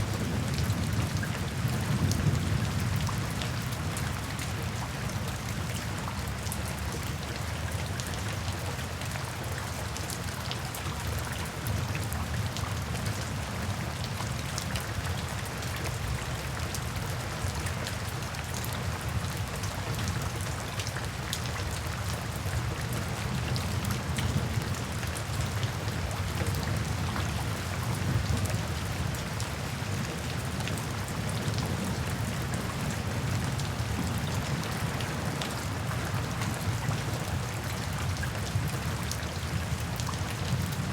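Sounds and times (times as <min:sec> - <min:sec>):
heavy rainfall rumble: 0:00.0 - 0:40.9
raindrops ticking on a surface: 0:00.0 - 0:40.9.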